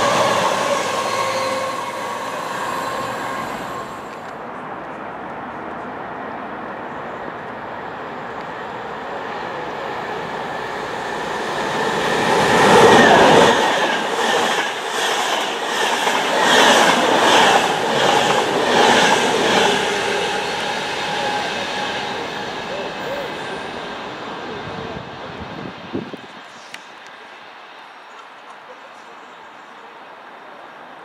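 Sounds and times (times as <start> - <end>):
train rushing past: 0.0 - 4.8, 5.4 - 27.9.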